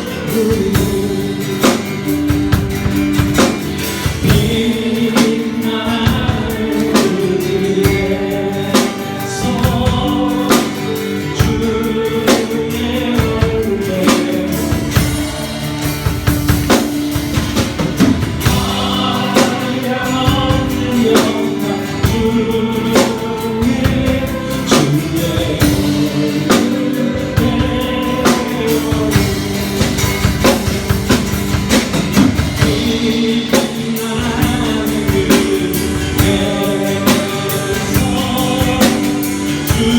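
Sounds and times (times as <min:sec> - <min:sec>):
drum kit beat: 0:00.0 - 0:39.9
held chords: 0:00.0 - 0:39.9
people singing: 0:00.0 - 0:39.9.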